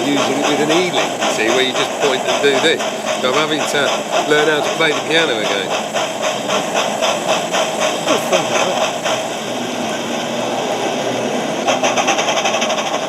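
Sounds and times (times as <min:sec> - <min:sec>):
model steam locomotive chuffs: 0:00.0 - 0:13.0.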